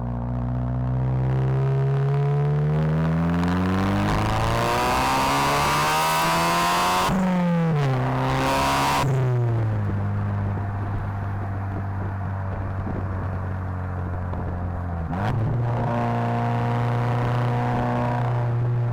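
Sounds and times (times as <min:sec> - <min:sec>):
car engine accelerating hard: 0:00.2 - 0:18.9.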